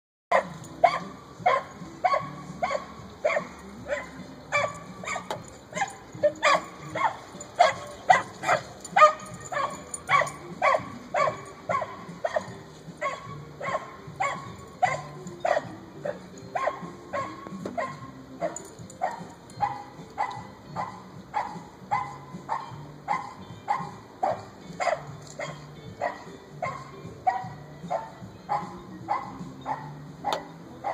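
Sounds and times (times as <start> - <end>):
dog barking: 0.3 - 30.9.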